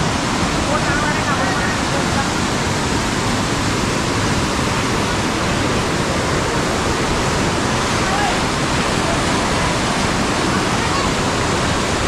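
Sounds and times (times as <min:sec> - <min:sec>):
river water rushing over boulders: 0:00.0 - 0:12.0.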